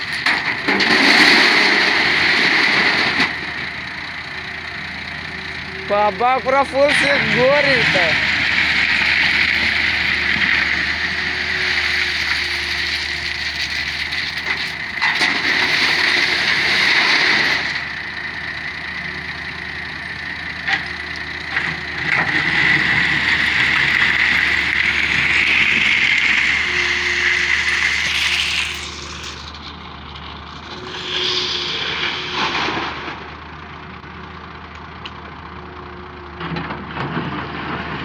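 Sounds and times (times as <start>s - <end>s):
excavator whining: 0.0s - 38.0s.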